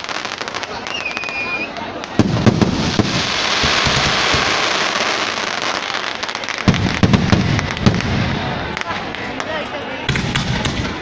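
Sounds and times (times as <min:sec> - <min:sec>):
crackling hiss of fireworks: 0:00.0 - 0:11.0
firework bangs: 0:00.0 - 0:11.0.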